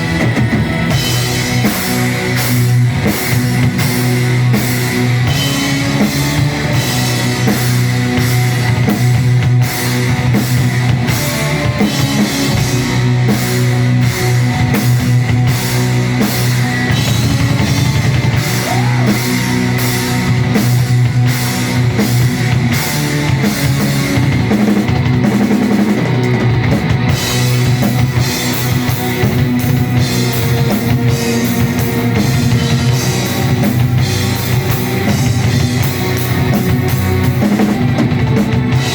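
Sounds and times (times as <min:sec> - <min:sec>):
heavy metal band playing: 0:00.0 - 0:38.9
pounding drum kit: 0:00.0 - 0:38.9.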